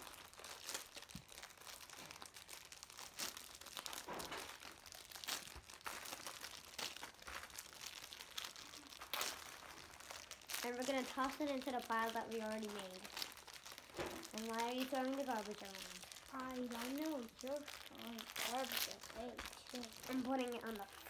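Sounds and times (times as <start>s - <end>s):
plastic packaging crinkling and tearing: 0.0s - 21.0s.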